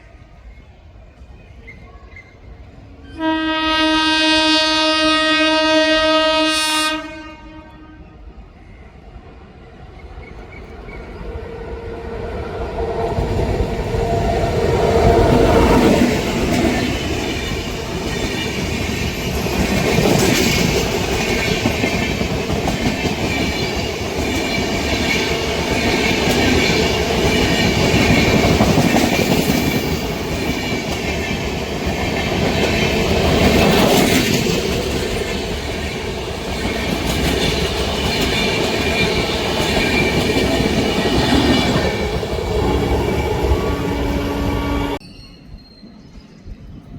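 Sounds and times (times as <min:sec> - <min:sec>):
train rumbling past: 0:00.0 - 0:45.0.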